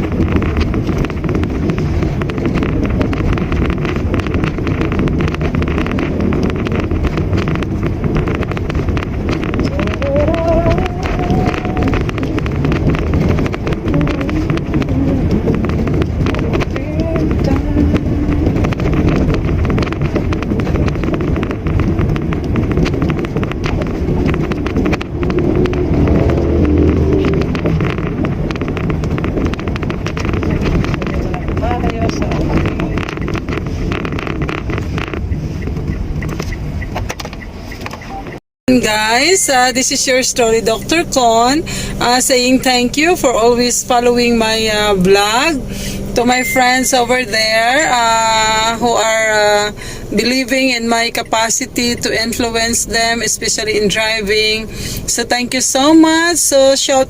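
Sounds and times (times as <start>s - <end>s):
car engine and road rumble: 0.0s - 57.0s
wind buffeting microphone: 0.0s - 57.0s.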